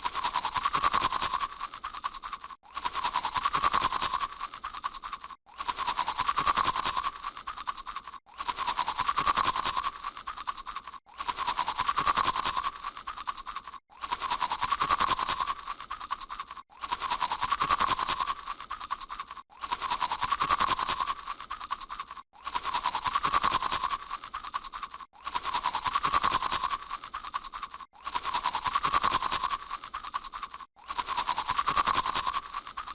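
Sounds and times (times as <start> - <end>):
toothbrush scrubbing teeth: 0.0 - 32.9.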